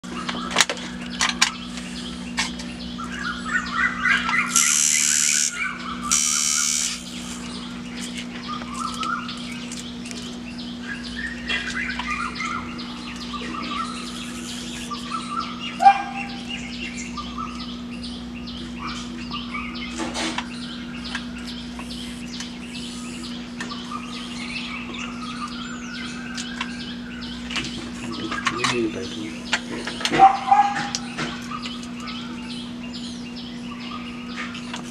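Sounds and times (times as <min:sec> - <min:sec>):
low steady hum: 0:00.0 - 0:34.9
small birds chirping: 0:00.0 - 0:34.9.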